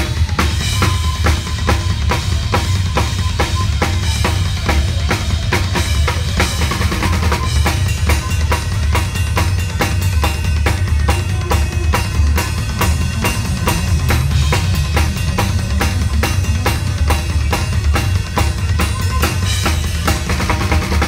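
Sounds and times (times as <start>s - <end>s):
double bass drum pattern: 0.0s - 21.0s.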